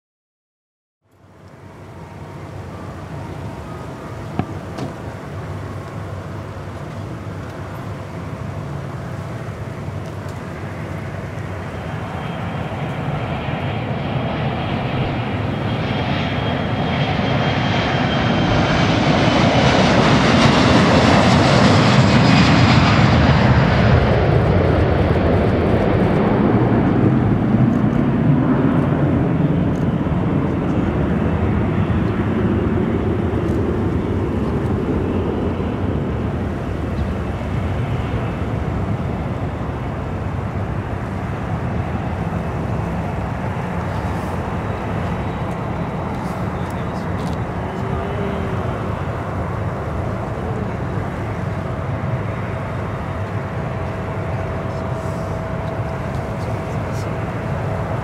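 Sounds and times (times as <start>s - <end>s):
jet engines with turbine whine: 1.1s - 58.0s.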